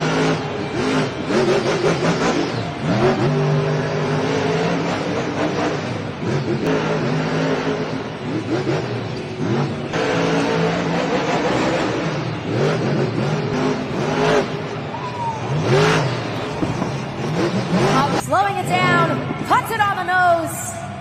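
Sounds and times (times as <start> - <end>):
truck engine revving hard: 0.0 - 18.2.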